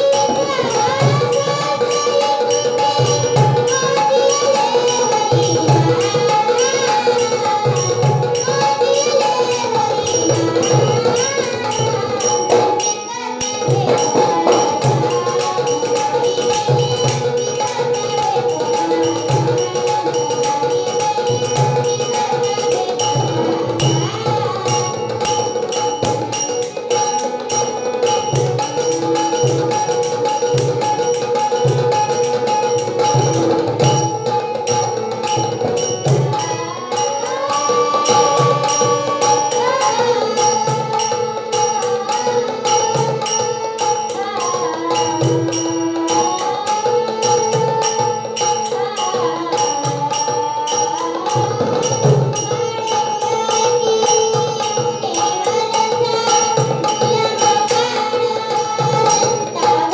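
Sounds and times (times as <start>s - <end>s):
girl singing: 0.0s - 59.9s
hand drum beating a rhythm: 0.0s - 59.9s
harmonium: 0.0s - 59.9s
small cymbals clinking: 0.0s - 59.9s.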